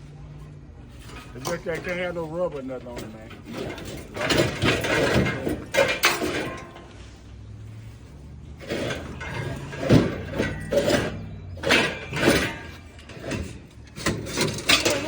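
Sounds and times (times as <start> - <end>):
scrap metal clanking: 0.8 - 15.0.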